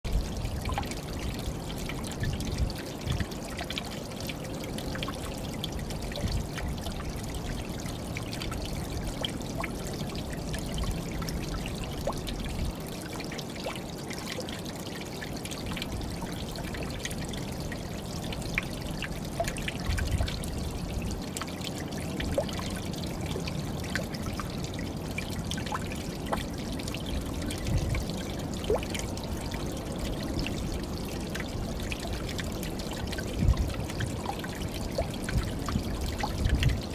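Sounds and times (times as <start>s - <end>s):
small waterfall splashing: 0.0s - 36.9s.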